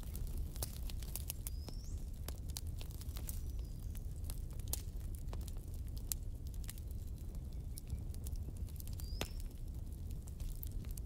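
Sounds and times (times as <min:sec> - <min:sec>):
fire flames rumbling: 0:00.0 - 0:11.0
wood crackling and popping: 0:00.0 - 0:11.0.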